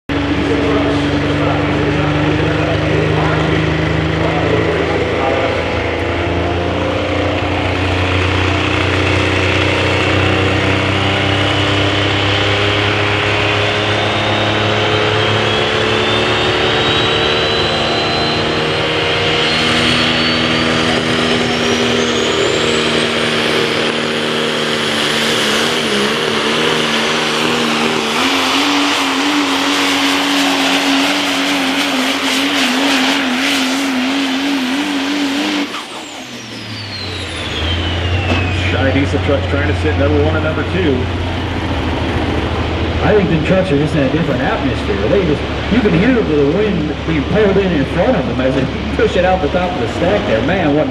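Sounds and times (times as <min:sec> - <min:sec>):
diesel engine under full load: 0:00.1 - 0:50.9
turbocharger whine: 0:00.1 - 0:50.9.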